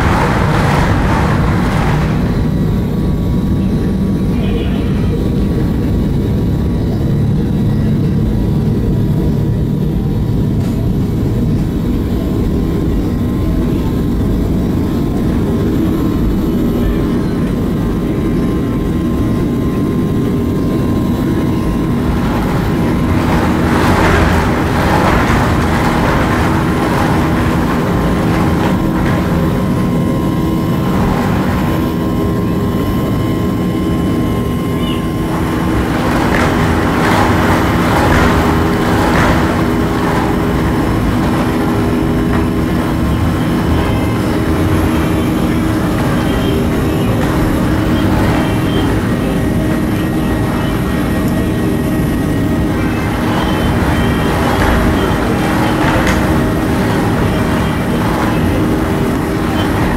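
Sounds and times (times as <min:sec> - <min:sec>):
rushing noise: 0:00.0 - 0:07.6, 0:14.0 - 0:59.9
jet engines rumbling: 0:00.0 - 0:59.9.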